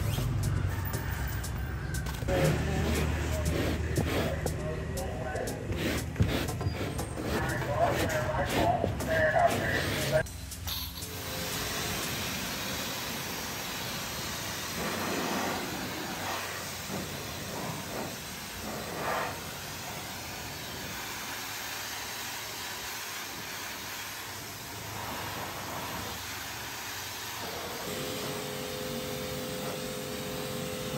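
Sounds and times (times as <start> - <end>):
pressure washer spraying: 2.1 - 30.9.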